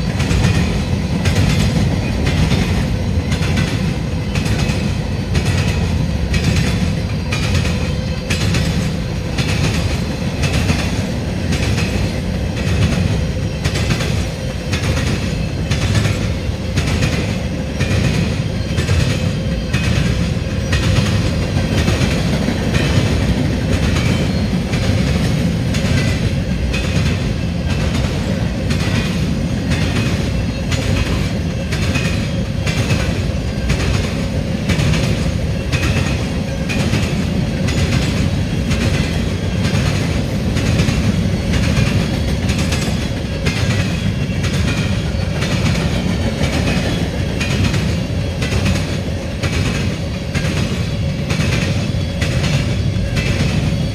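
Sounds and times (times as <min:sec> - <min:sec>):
freight train rumbling past: 0:00.0 - 0:53.9
wheels clacking over rail joints: 0:00.0 - 0:53.9.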